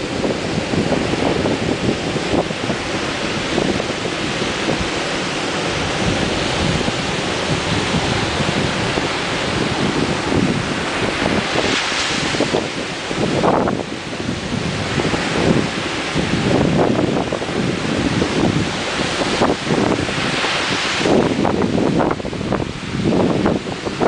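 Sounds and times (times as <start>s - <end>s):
ocean surf washing ashore: 0.0s - 24.0s
wind buffeting microphone: 0.0s - 24.0s.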